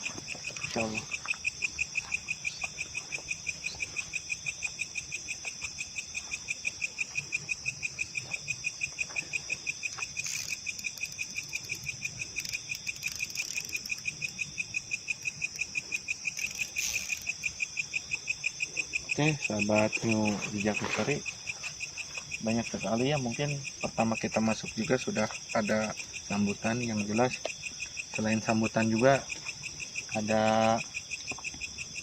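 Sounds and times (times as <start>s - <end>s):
high-pitched insect drone: 0.0s - 32.0s
insects chirping rapidly: 0.0s - 32.0s.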